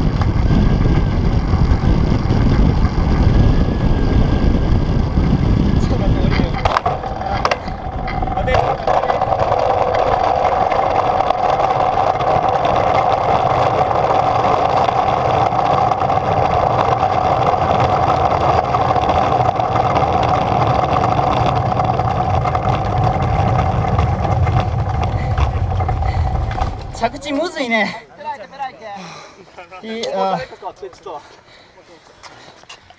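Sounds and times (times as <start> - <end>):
air rushing: 0.0 - 27.5
propeller whirring hum: 0.0 - 28.2.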